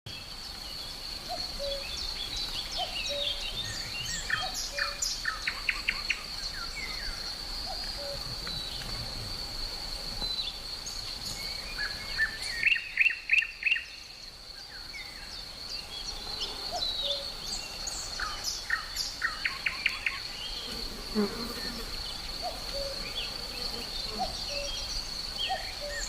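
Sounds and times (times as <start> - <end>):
songbirds chirping: 0.1 - 26.0
high-pitched insect drone: 0.2 - 26.0.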